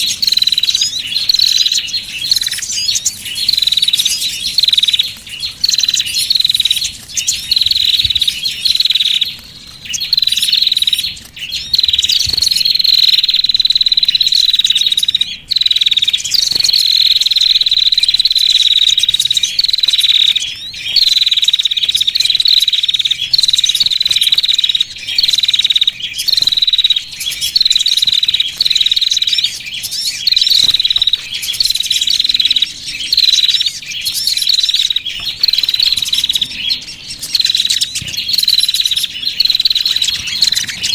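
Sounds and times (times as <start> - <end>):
high twittering: 0.0 - 40.9
high-pitched bird chirping calls: 0.0 - 40.9.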